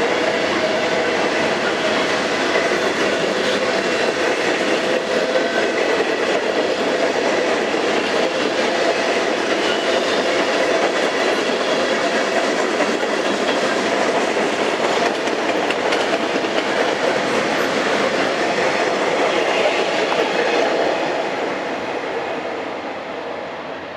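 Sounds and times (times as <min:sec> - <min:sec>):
wheel clatter over rail joints: 0:00.0 - 0:21.0
train rail rumble: 0:00.0 - 0:23.9.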